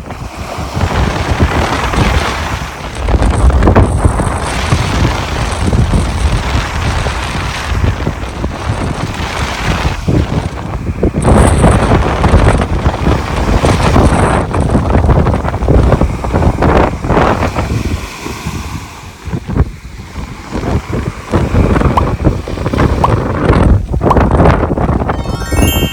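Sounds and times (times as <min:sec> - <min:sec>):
sea waves breaking on shore: 0:00.0 - 0:11.1, 0:11.9 - 0:23.6
wind buffeting microphone: 0:00.0 - 0:25.4.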